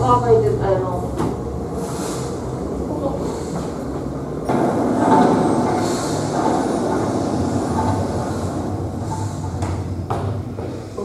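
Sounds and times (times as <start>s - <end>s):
rumbling clattering machinery: 0.0s - 11.0s.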